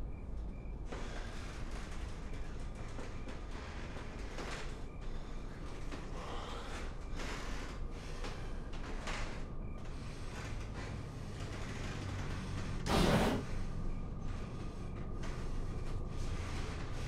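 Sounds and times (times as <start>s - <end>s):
low rumbling suspense drone: 0.0s - 17.0s.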